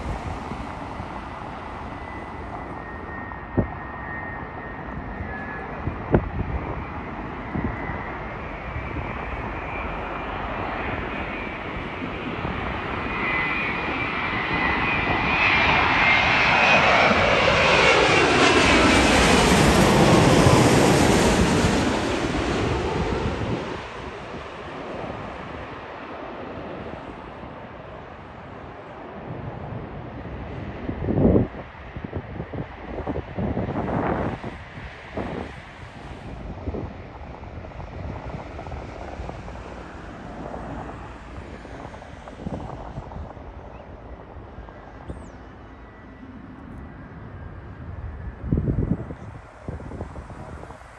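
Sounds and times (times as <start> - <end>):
jet engine whine falling in pitch: 0.0 - 50.9
jet flying low overhead: 0.0 - 50.9
wind buffeting microphone: 0.0 - 50.9.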